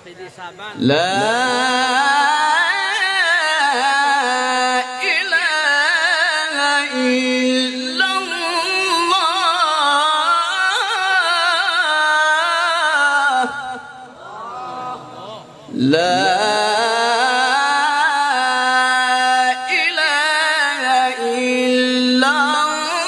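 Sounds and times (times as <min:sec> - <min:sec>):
man reciting melodically: 0:00.0 - 0:14.2, 0:15.0 - 0:23.0.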